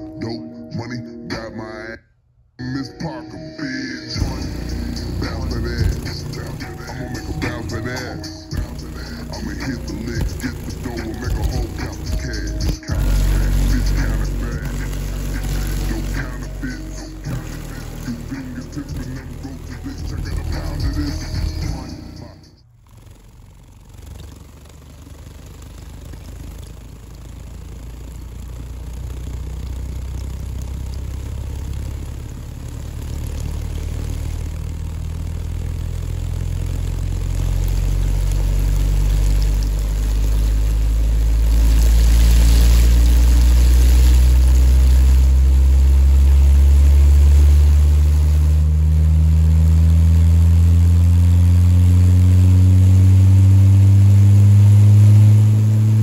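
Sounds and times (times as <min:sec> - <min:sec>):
deep bass tone rising in pitch: 0:02.6 - 0:56.0.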